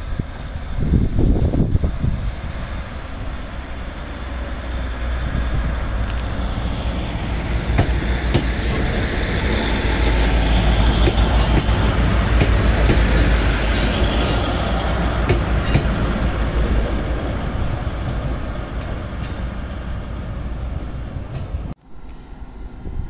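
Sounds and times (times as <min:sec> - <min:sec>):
diesel train engine drone: 0:00.0 - 0:23.0
wheel and rail noise: 0:00.0 - 0:23.0.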